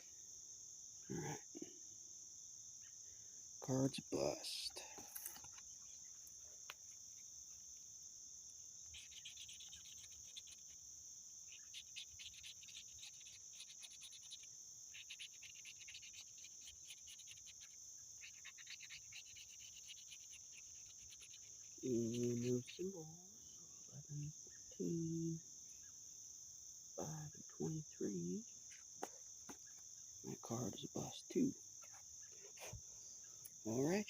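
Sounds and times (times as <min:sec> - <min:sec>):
high insect chorus: 0:00.0 - 0:34.0.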